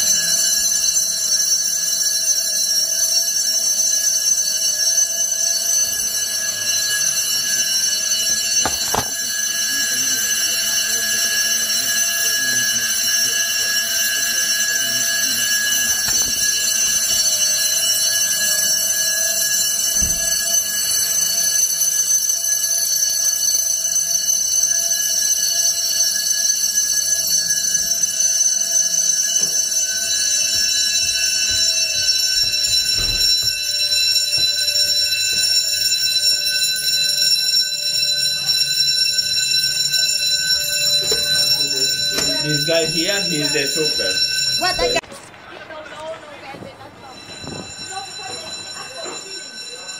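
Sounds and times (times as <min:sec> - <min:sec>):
fire alarm bells ringing: 0:00.0 - 0:45.1, 0:45.7 - 0:49.9.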